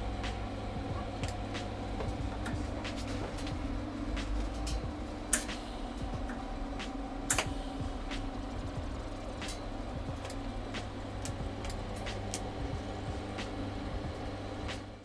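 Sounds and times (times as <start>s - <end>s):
arc welder humming: 0.0s - 15.0s.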